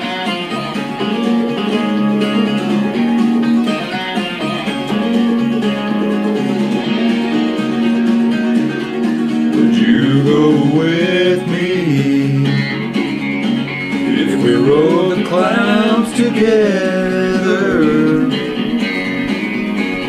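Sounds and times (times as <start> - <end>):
acoustic guitar: 0.0 - 20.0
sliding wavering melody line: 0.0 - 20.0.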